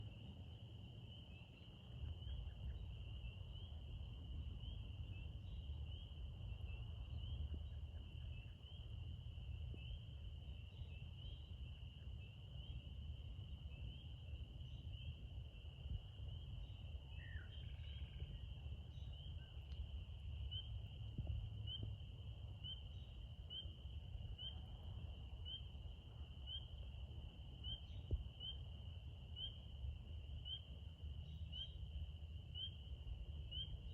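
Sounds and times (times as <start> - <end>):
low steady rumble: 2.0 - 33.9.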